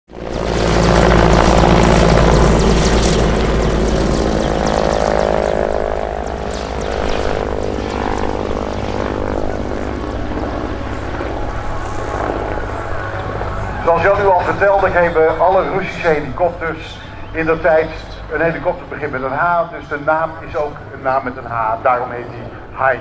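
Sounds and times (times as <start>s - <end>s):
helicopter engine whine: 0.1s - 23.0s
helicopter rotor rumble: 0.1s - 23.0s.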